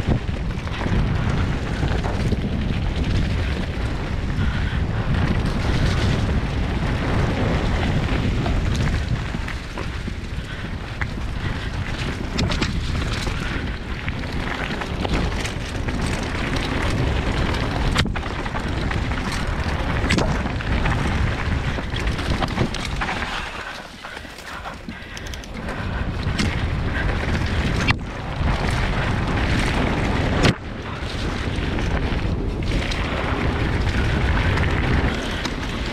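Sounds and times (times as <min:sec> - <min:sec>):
bike knocks and rattles: 0:00.0 - 0:35.9
tyres rushing on dirt: 0:00.0 - 0:35.9
wind buffeting microphone: 0:00.0 - 0:35.9.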